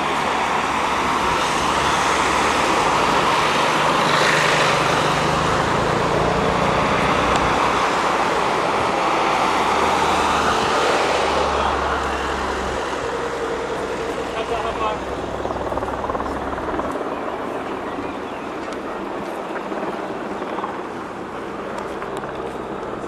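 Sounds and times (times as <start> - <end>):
vehicles driving past: 0.0 - 19.7.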